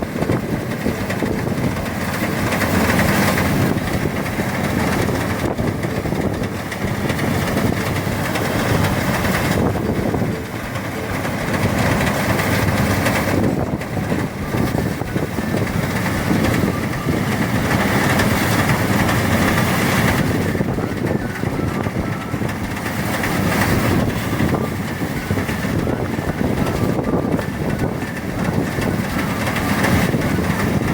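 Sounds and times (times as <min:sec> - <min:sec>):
threshing machine running: 0:00.0 - 0:30.9.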